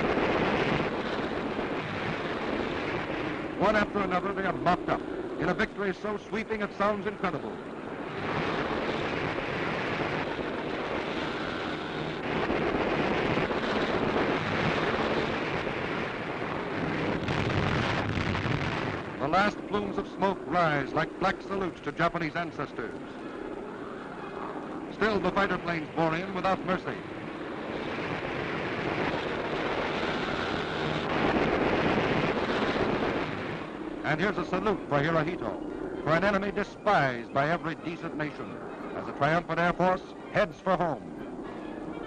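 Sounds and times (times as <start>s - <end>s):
aircraft engine noise: 0.0s - 42.0s.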